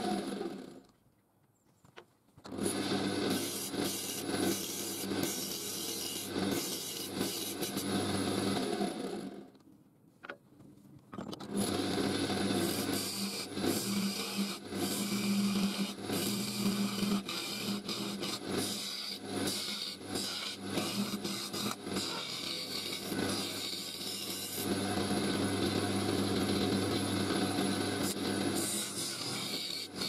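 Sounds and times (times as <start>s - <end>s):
lathe gouge scraping wood: 2.5s - 8.9s, 11.5s - 30.0s.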